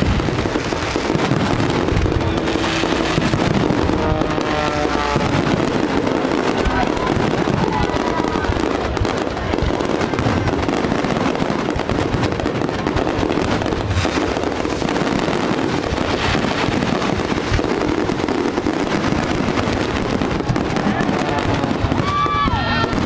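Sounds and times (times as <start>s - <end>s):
fireworks bangs and crackling: 0.0s - 23.0s.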